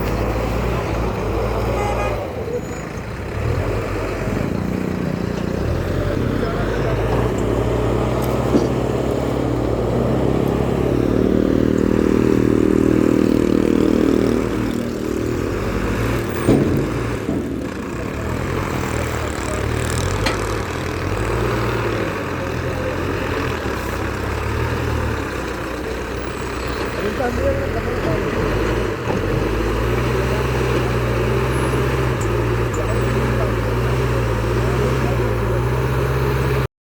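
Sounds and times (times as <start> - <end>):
heavy machine engine running: 0.0 - 36.7.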